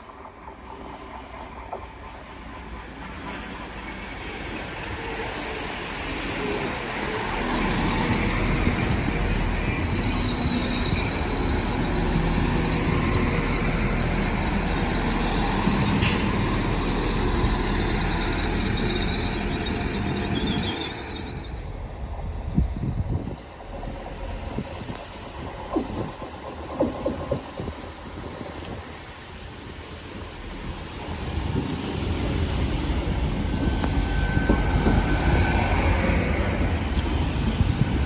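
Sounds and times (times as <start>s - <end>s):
train running: 0.0s - 38.0s
high-pitched metallic squeal: 0.4s - 21.8s, 28.6s - 38.0s.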